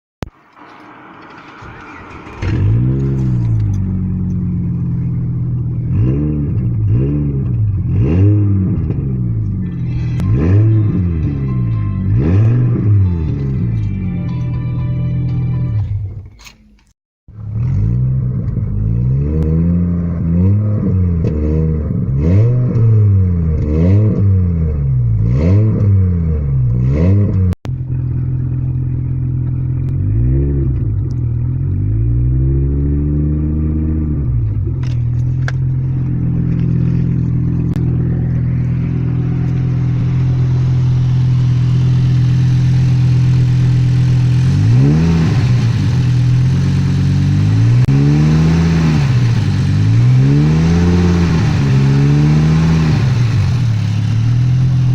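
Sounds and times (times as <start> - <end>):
car engine revving and idling: 0.2 - 16.4, 17.3 - 54.9.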